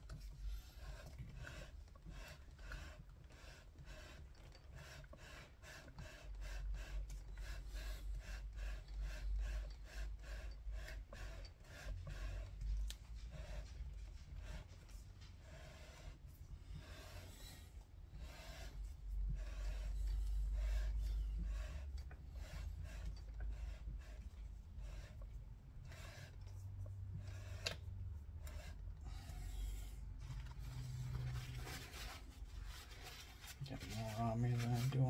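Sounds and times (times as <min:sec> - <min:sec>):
rhythmic rubbing strokes: 0:00.1 - 0:35.0.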